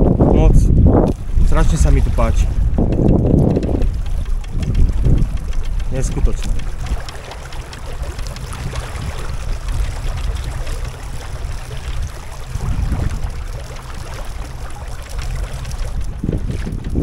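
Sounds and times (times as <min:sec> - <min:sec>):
low rumble: 0:00.0 - 0:17.0
water splashing along boat hull: 0:00.0 - 0:17.0.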